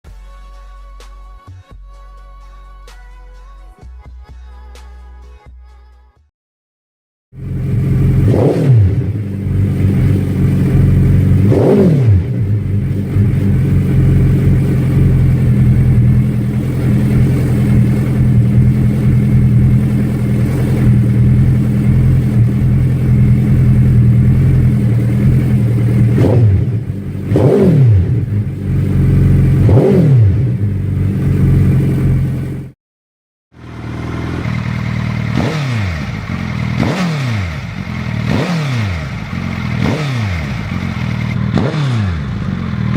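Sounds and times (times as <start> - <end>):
exhaust idling and revving: 7.4 - 32.8, 33.5 - 42.9
motorcycle engine idling: 7.4 - 32.8, 33.6 - 42.9.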